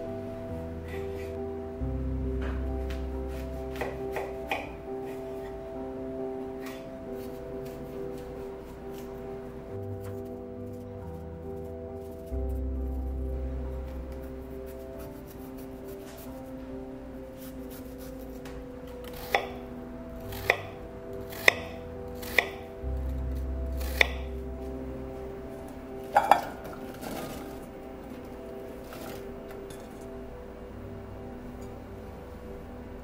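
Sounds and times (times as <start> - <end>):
soft background music: 0.0 - 33.0.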